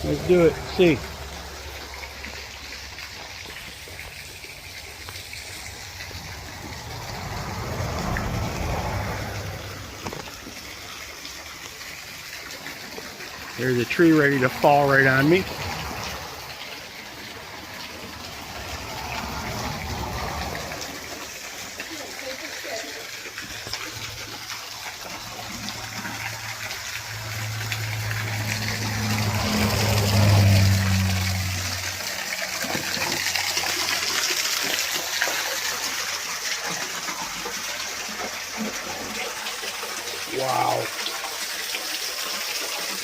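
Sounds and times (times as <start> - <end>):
small waterfall splashing: 0.0 - 43.0.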